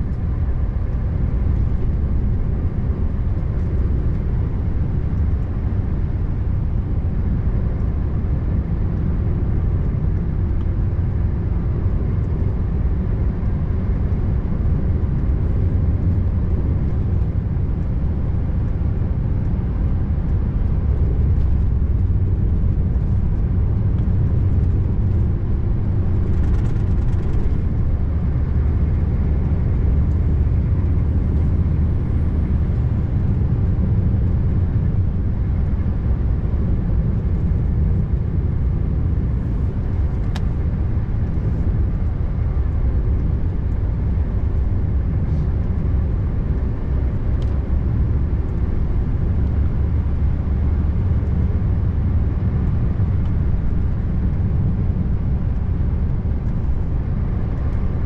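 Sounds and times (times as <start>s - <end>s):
road noise: 0.0s - 58.0s.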